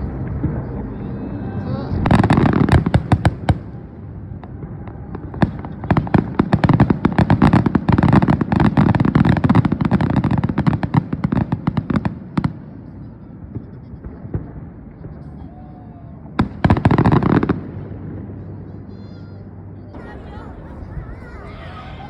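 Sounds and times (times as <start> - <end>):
fireworks bangs and crackles: 0.0 - 18.9, 20.0 - 22.0.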